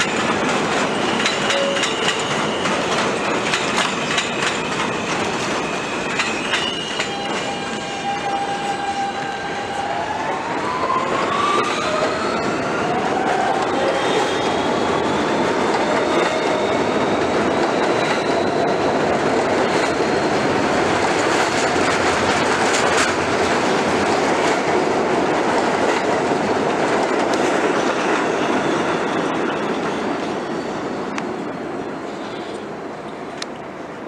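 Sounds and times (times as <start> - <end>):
subway train wheels clattering: 0.0 - 34.0.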